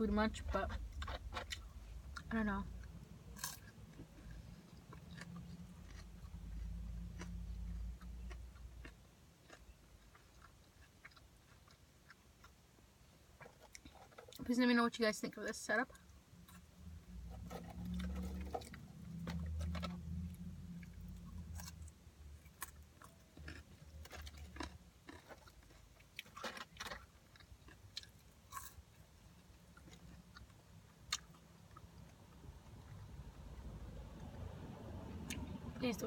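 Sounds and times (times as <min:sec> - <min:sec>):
person chewing food: 0:00.8 - 0:14.4, 0:16.0 - 0:33.1.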